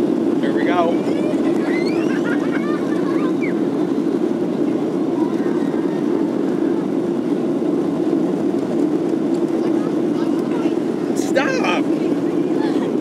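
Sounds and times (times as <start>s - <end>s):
aircraft engine drone in cabin: 0.0s - 13.0s
faint voices: 0.3s - 7.6s, 9.3s - 13.0s.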